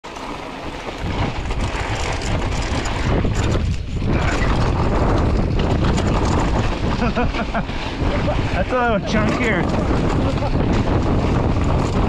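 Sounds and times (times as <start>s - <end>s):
bike clicks and rattles: 0.1s - 12.0s
wind buffeting microphone: 0.6s - 12.0s.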